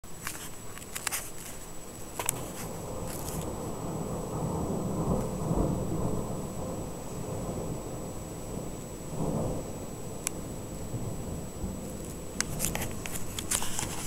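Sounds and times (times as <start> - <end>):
thunder crackles: 0.0 - 14.0
low thunder rumble: 1.7 - 14.0.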